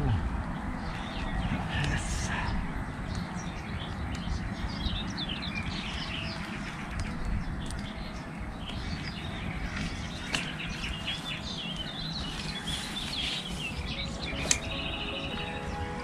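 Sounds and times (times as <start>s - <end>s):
songbirds chirping and warbling: 0.0s - 16.0s.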